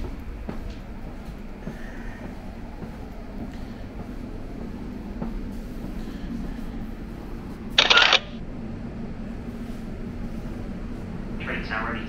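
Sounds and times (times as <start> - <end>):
train interior low hum: 0.0 - 12.0.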